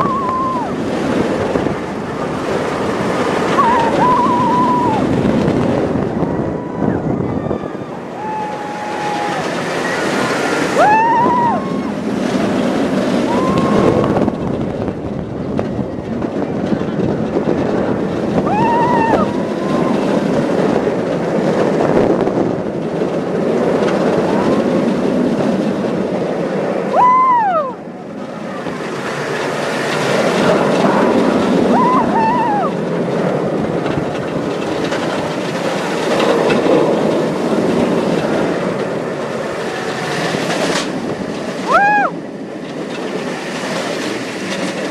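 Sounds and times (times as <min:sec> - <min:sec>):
roller coaster rumbling on track: 0:00.0 - 0:44.9
rushing wind: 0:00.0 - 0:44.9.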